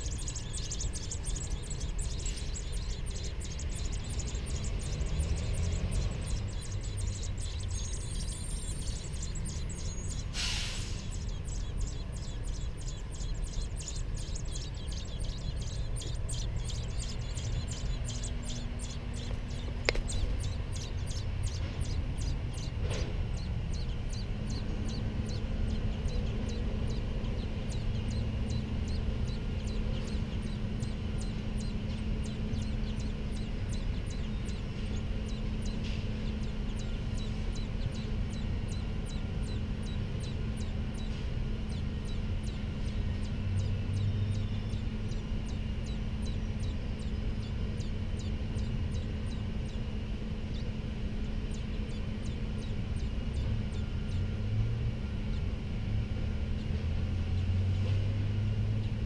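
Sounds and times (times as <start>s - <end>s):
low steady rumble: 0.0s - 59.0s
nestlings peeping: 0.0s - 59.0s.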